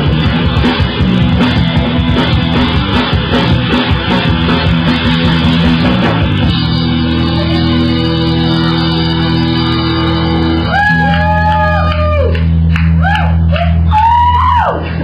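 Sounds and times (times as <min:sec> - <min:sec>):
electric guitar bent notes: 0:00.0 - 0:13.9
live rock band music: 0:00.0 - 0:14.2.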